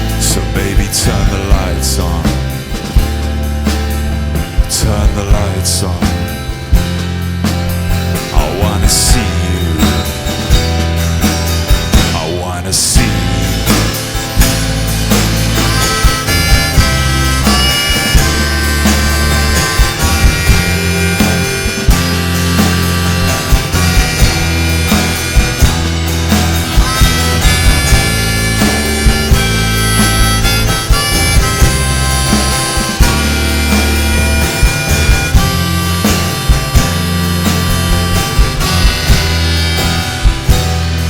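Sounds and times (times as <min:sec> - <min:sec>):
harmonica wailing notes: 0:00.0 - 0:41.0
live rock band playing: 0:00.0 - 0:41.0.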